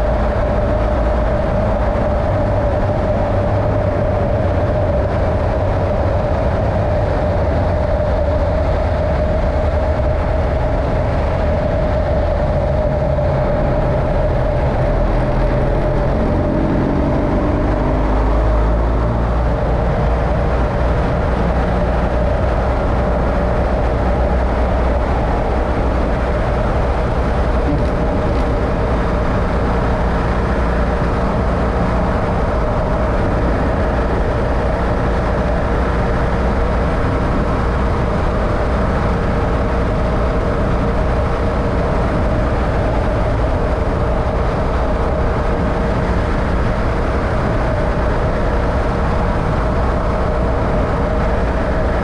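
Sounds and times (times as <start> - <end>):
vehicle engine and road rumble: 0.0 - 52.0.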